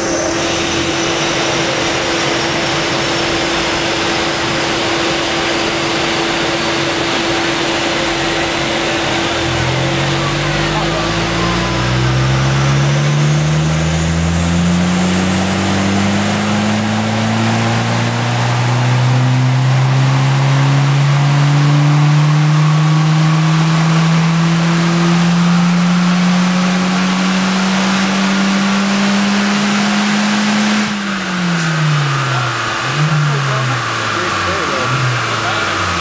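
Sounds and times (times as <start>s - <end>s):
car engine revving under load: 0.0s - 36.0s.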